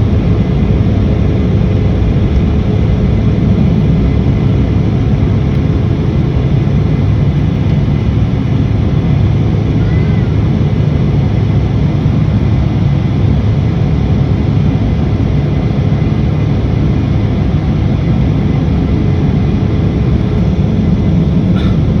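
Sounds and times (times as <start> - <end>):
airliner engine rumble: 0.0 - 22.0.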